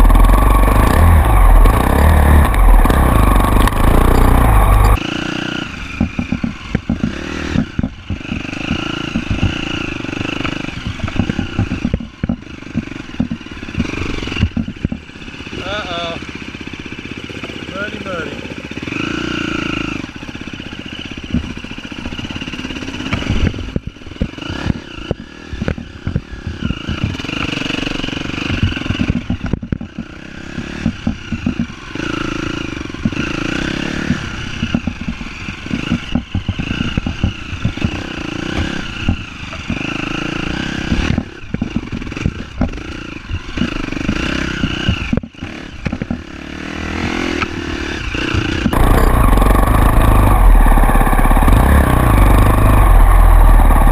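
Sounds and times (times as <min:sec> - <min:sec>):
vehicle rattling and knocking: 0:00.0 - 0:05.0, 0:05.9 - 0:15.8, 0:20.2 - 0:47.3, 0:48.1 - 0:53.9
off-road vehicle engine revving: 0:00.0 - 0:53.9.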